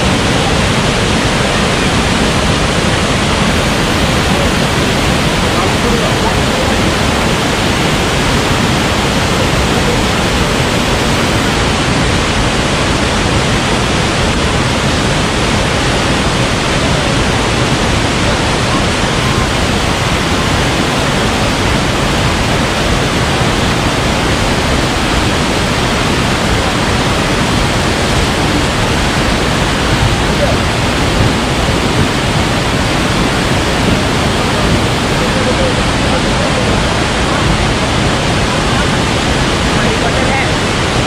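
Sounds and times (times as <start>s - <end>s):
waterfall roar: 0.0s - 41.0s.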